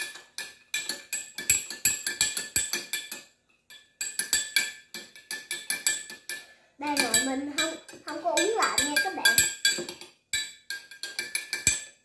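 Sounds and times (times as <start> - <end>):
spoon clinking against a glass: 0.0 - 12.0.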